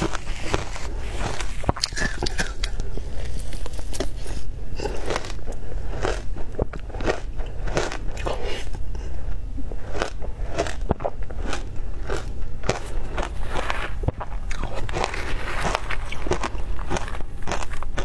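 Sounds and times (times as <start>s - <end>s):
crunching and chewing ice: 0.0s - 9.1s, 9.7s - 18.0s.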